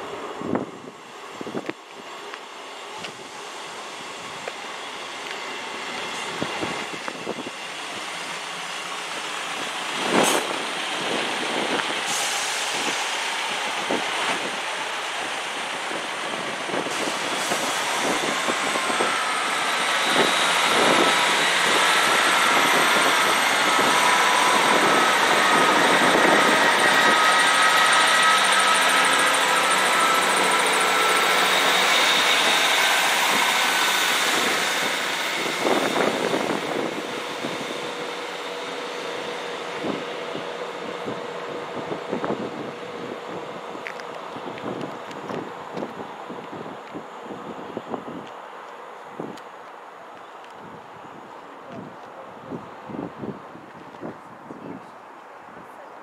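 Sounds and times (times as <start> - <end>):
diesel train passing: 0.0 - 56.0
high whining tones: 3.0 - 47.9.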